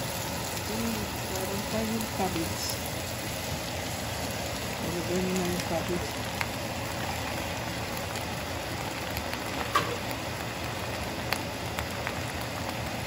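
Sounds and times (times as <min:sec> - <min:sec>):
cabbage sizzling in hot oil: 0:00.0 - 0:13.0.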